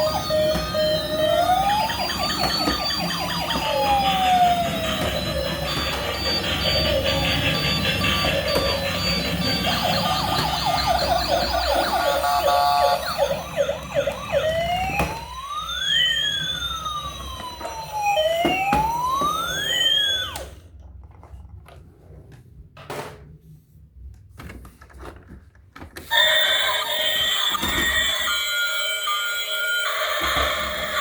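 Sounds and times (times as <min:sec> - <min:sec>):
toy electronic siren: 0:00.0 - 0:20.7, 0:26.1 - 0:31.0.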